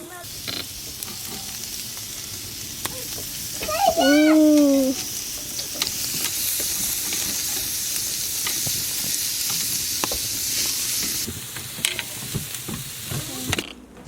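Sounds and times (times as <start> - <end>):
steaks sizzling: 0.0 - 13.6
small pops and crackles: 0.3 - 2.1, 2.8 - 13.7.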